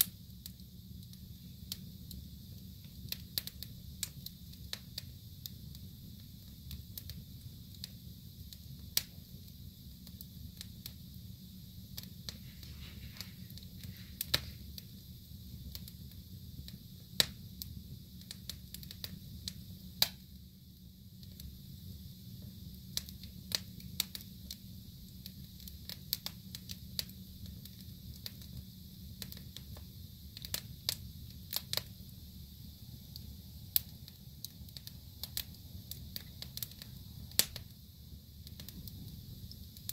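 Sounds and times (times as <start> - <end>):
low steady rumble: 0.0 - 39.9
wood fire crackling and popping: 0.0 - 39.9.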